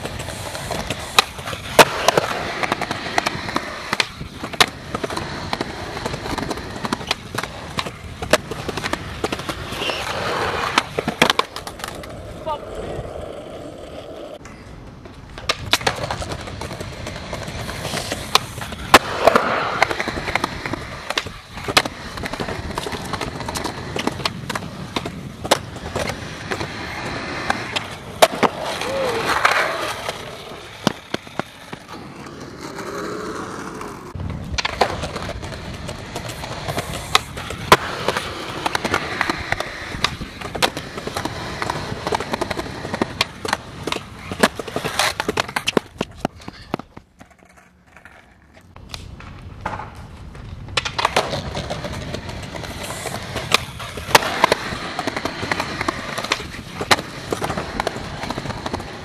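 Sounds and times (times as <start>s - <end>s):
skateboard clacking on landings: 0.0s - 59.0s
skateboard wheels rolling on concrete: 0.0s - 59.0s.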